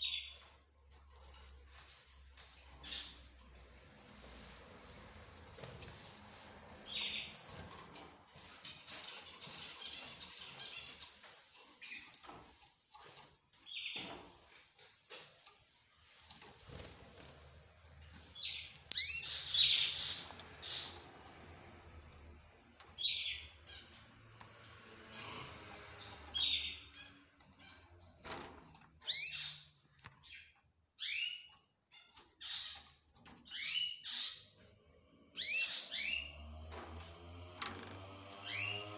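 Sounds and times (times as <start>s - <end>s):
birds chirping: 0.0s - 4.3s, 4.9s - 15.2s, 15.9s - 36.5s, 38.3s - 38.9s.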